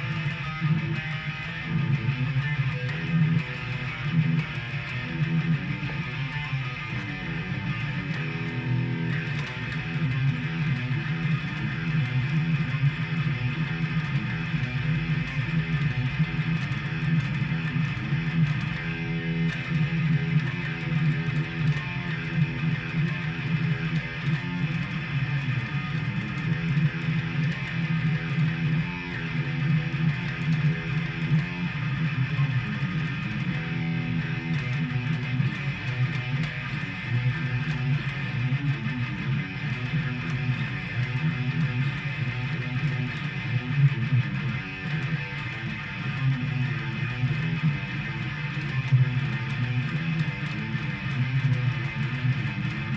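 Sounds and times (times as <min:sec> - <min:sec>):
electric guitar riffs and chords: 0:00.0 - 0:52.9.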